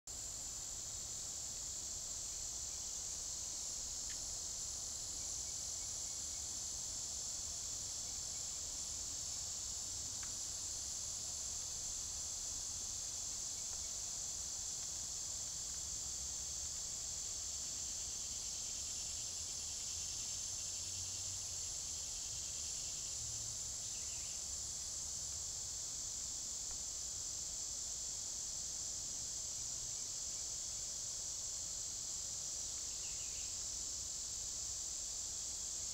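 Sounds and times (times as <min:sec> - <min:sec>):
high-pitched insect chorus: 0:00.1 - 0:35.9.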